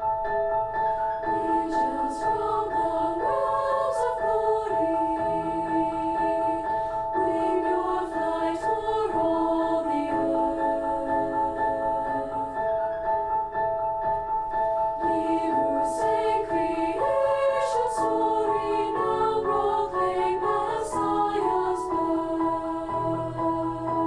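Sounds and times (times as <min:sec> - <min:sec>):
choir singing a carol: 0:01.1 - 0:13.8, 0:14.8 - 0:24.0.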